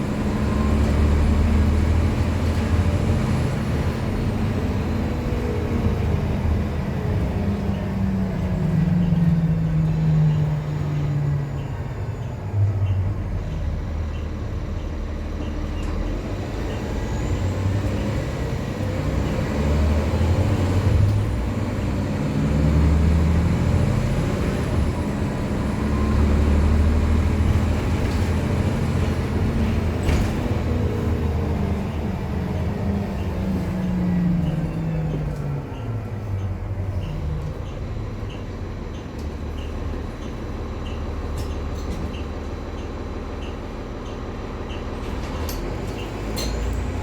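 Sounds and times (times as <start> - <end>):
bus engine accelerating: 0.0 - 47.0.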